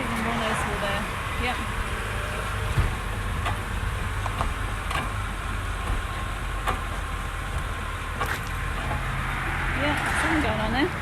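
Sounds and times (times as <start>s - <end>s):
car engine idling: 0.0s - 11.0s
suspension clicks and knocks: 0.0s - 11.0s.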